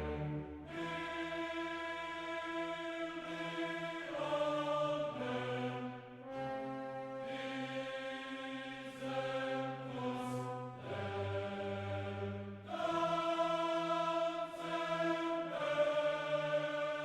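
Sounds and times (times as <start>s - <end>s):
slow choir-like chords: 0.0s - 17.0s.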